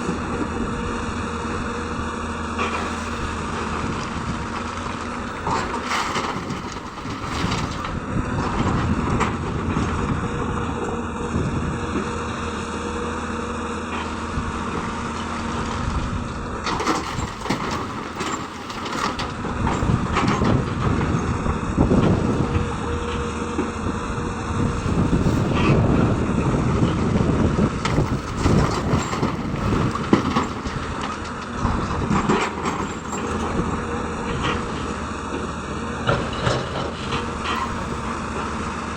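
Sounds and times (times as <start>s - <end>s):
excavator diesel engine working: 0.0s - 38.9s.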